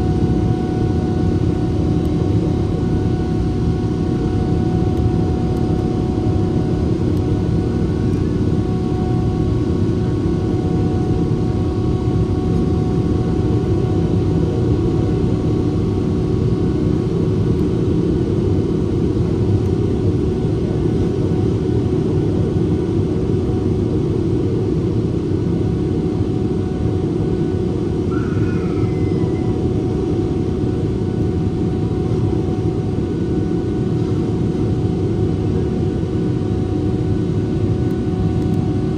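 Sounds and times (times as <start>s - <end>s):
jet engine low roar: 0.0s - 38.9s.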